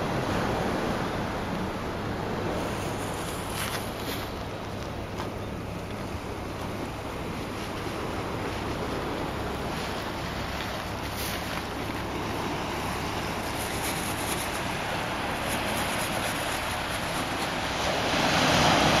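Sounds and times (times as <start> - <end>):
small waves on pebble shore: 0.0 - 5.0, 6.1 - 19.0
wind rumbling on microphone: 0.0 - 19.0.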